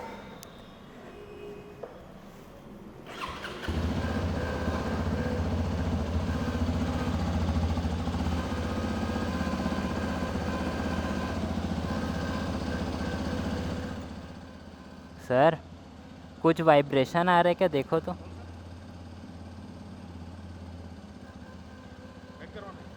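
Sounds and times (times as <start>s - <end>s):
motorcycle engine starting and idling: 3.0s - 16.4s, 18.0s - 22.9s.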